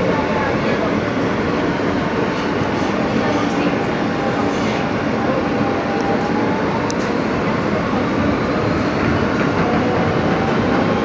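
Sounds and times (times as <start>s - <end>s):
subway wheels rumbling on rail: 0.0s - 11.0s.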